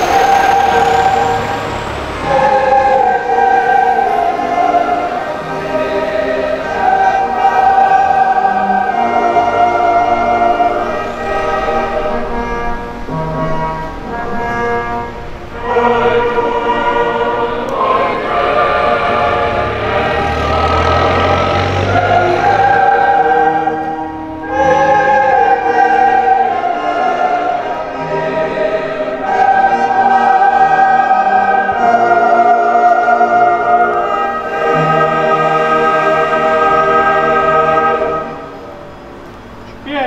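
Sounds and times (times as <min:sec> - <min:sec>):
choir singing solemn anthem: 0:00.0 - 0:39.8.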